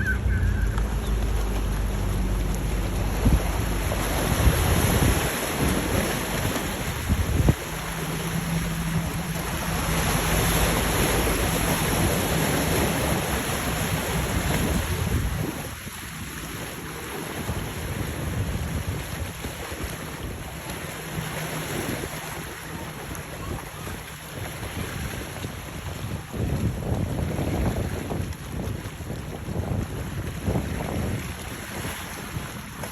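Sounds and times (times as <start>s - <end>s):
boat motor drone: 0.0s - 32.9s
rushing water: 0.0s - 32.9s
wind buffeting microphone: 0.0s - 32.9s.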